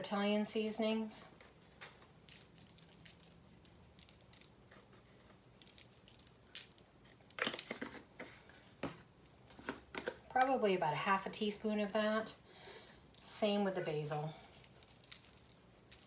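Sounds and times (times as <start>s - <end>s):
rustling of spice containers: 0.6s - 10.4s, 12.6s - 16.0s.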